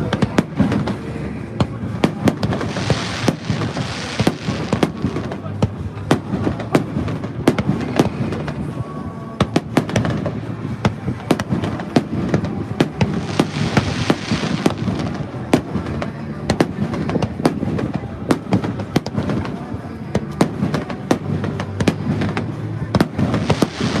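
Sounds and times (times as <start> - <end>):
fireworks bangs and cracks: 0.0 - 24.0
fireworks hissing: 2.0 - 8.8, 9.7 - 24.0.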